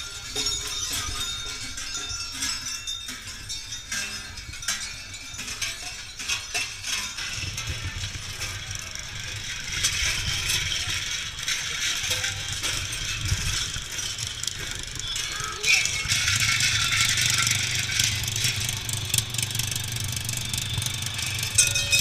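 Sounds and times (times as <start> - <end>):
cowbells clanging and jangling: 0.0 - 22.0.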